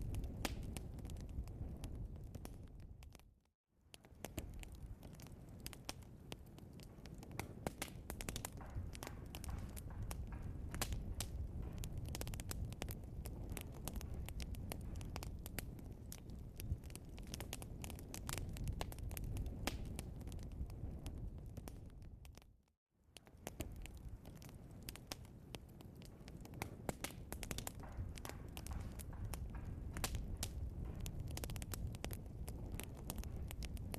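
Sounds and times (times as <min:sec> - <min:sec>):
log fire crackling and popping: 0:00.0 - 0:33.9
low rumble of flames: 0:00.0 - 0:33.9.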